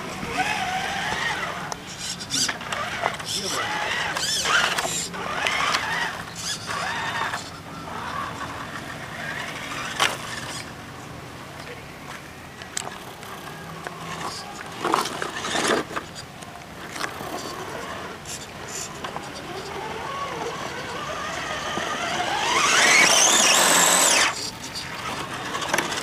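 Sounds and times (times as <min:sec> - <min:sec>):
rc car motor whining: 0:00.0 - 0:11.1, 0:12.1 - 0:26.0.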